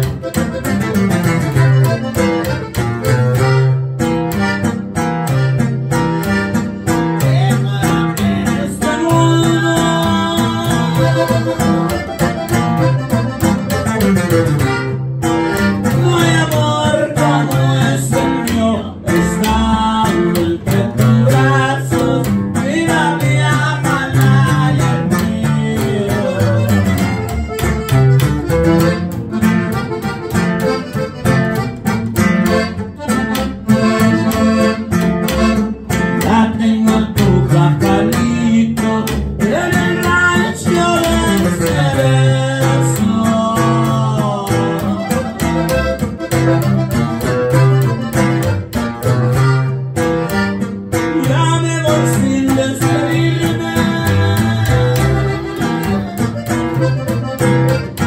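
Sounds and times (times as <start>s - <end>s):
accordion melody: 0.0s - 58.0s
acoustic guitar: 0.0s - 58.0s
upright bass: 0.0s - 58.0s.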